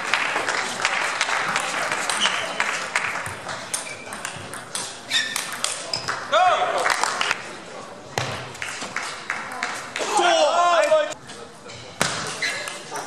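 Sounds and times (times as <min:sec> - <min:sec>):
hubbub of sports hall: 0:00.0 - 0:13.0.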